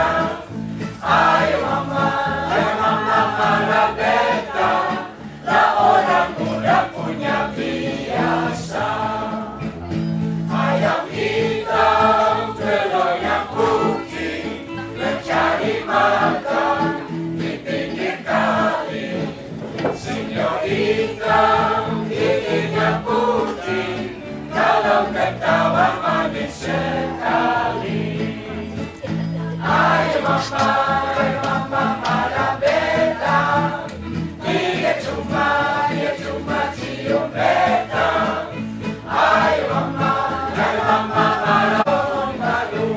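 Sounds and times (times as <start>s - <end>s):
choir singing with instruments: 0.0s - 42.9s.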